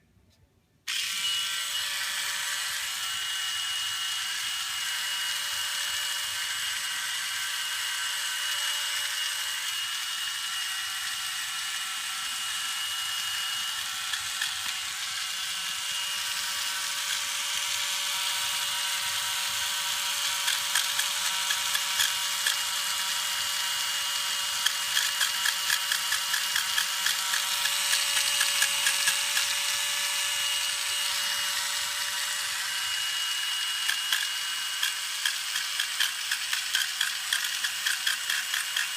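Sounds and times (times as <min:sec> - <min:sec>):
electric nail grinder whining: 0:00.9 - 0:38.9.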